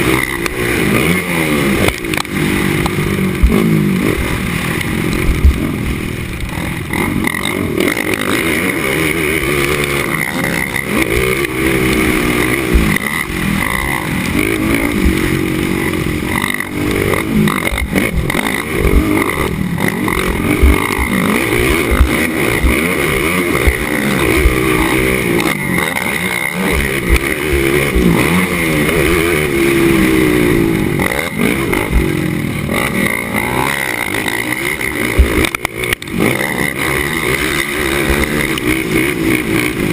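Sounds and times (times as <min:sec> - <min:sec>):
atv engine revving hard: 0:00.0 - 0:39.9.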